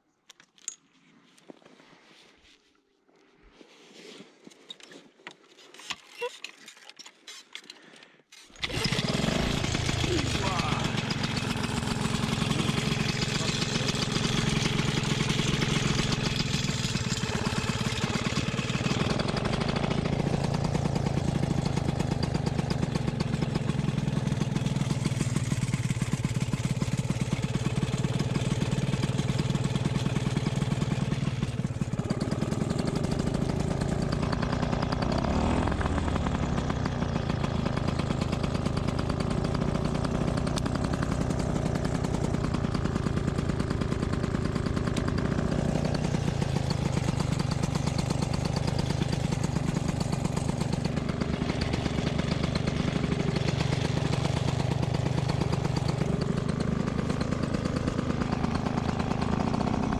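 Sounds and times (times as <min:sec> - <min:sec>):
paramotor engine idling: 0:08.6 - 0:59.9.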